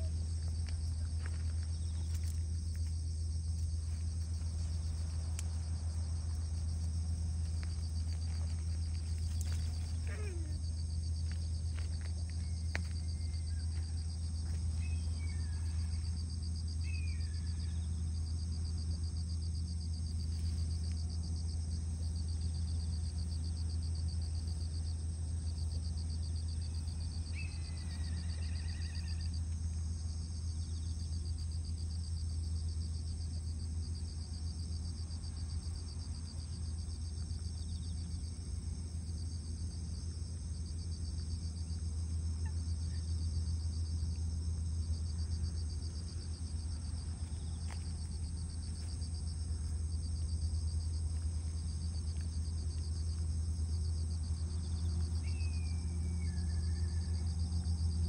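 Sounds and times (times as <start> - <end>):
insects trilling: 0.0 - 58.0
steady low hum: 0.0 - 58.0.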